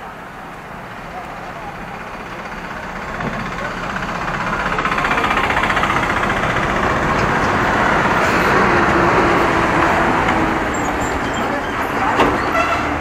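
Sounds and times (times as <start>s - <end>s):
diesel lorry driving past: 0.0s - 13.0s.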